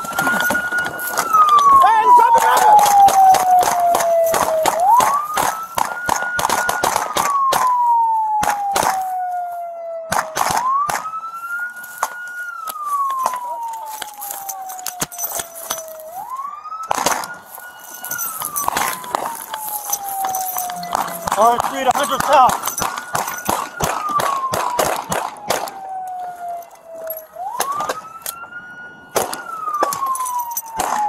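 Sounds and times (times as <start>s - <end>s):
police siren wailing: 0.0s - 31.0s.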